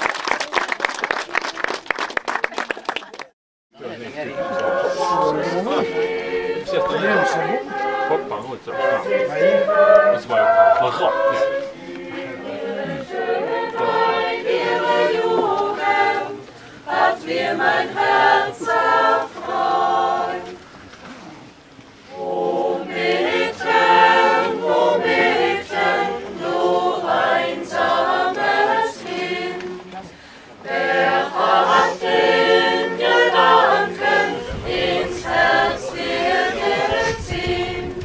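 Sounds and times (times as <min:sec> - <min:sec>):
choir of children and adults singing: 0:03.8 - 0:20.6, 0:22.0 - 0:38.0.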